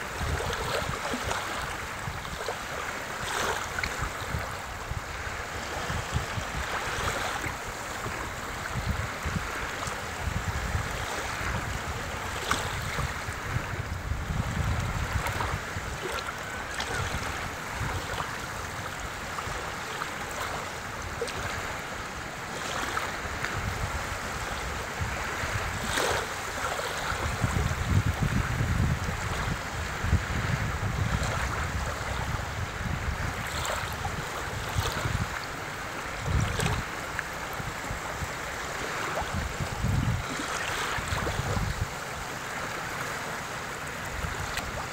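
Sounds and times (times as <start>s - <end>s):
wind buffeting microphone: 0.0s - 2.6s, 3.2s - 19.6s, 22.7s - 42.7s
small waves lapping: 0.0s - 44.9s.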